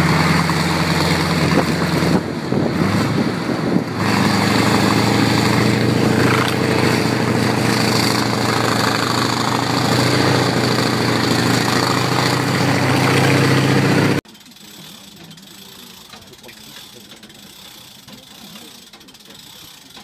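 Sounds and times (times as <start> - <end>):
tank engine droning: 0.0 - 19.8.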